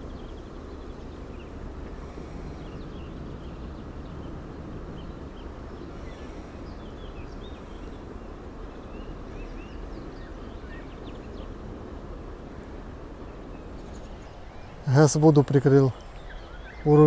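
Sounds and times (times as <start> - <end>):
faint bird chirps: 0.0 - 11.7, 12.6 - 17.0
outdoor background noise: 0.0 - 17.0.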